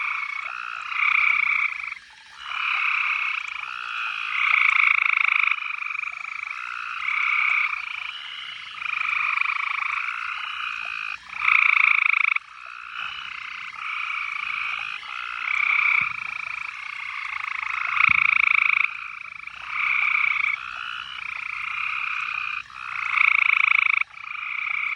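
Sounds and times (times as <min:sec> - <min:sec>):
frogs trilling: 0:00.0 - 0:24.9.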